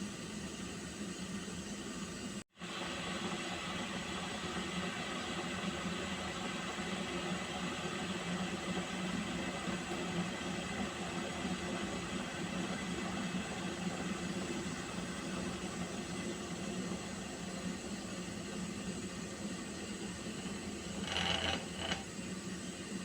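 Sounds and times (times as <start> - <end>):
water heating in a pot: 0.0 - 23.0.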